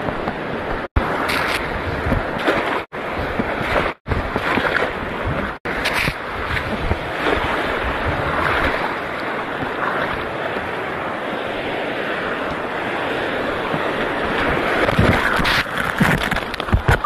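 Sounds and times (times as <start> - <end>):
sea water washing at shore: 0.0 - 17.0
wind buffeting microphone: 0.0 - 17.0.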